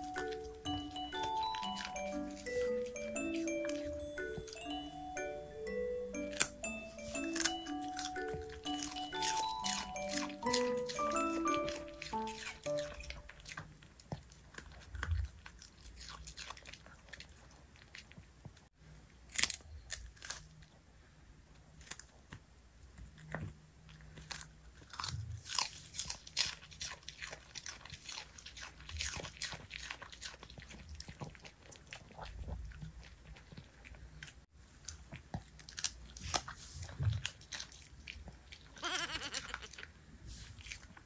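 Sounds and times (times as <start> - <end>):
dog crunching cabbage: 0.0 - 20.8, 21.5 - 41.0.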